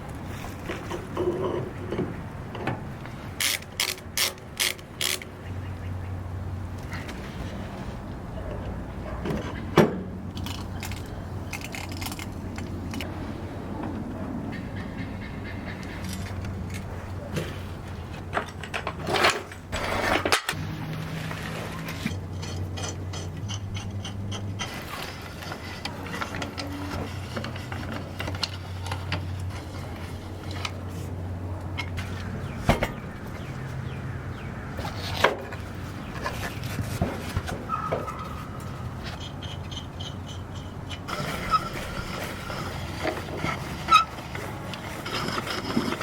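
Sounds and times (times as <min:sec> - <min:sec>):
rubbing and scraping of parts: 0:00.0 - 0:05.3, 0:06.8 - 0:13.2, 0:15.7 - 0:33.9, 0:34.8 - 0:46.0.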